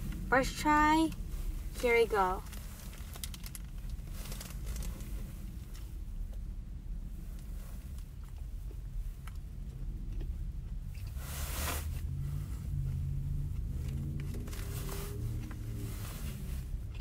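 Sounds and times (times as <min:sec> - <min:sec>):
car cabin rumble: 0:00.0 - 0:17.0
rustle: 0:00.0 - 0:17.0.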